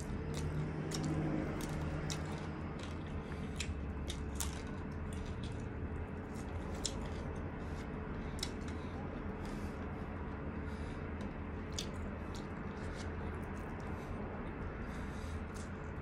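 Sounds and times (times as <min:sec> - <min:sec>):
chewing and lip smacks: 0:00.0 - 0:16.0
low steady hum: 0:00.0 - 0:16.0.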